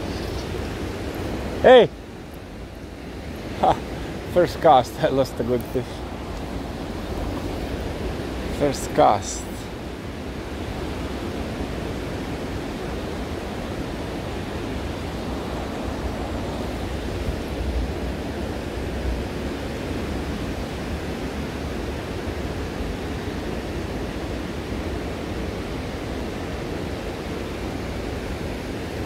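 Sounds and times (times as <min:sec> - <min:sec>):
river rushing over stones: 0:00.0 - 0:29.0.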